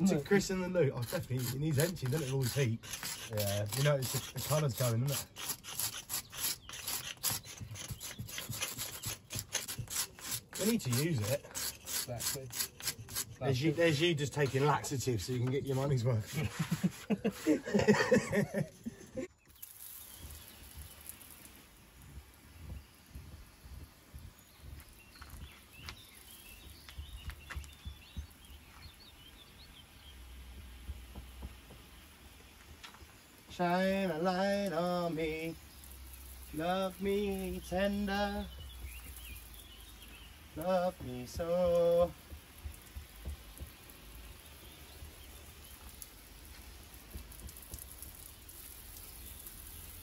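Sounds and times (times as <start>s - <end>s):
bird chirping: 0.0s - 50.0s
garden hose spraying water: 0.0s - 50.0s.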